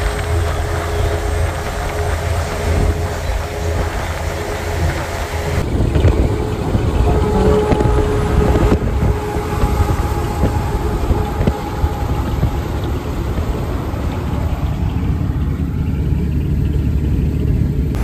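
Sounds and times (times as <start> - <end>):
road and wind rush: 0.0 - 18.0
truck engine drone: 0.0 - 18.0.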